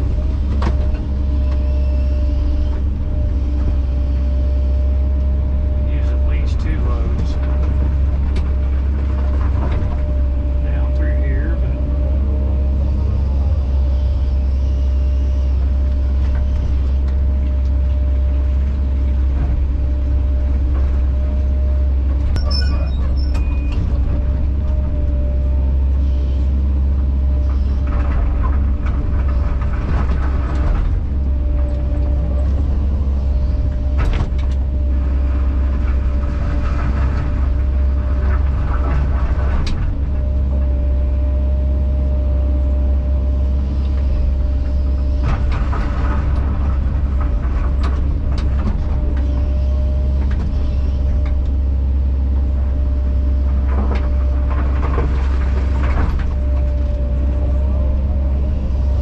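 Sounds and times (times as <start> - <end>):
engine whine: 0.0 - 59.0
excavator diesel engine humming: 0.0 - 59.0
machinery clatter and knocks: 0.0 - 59.0.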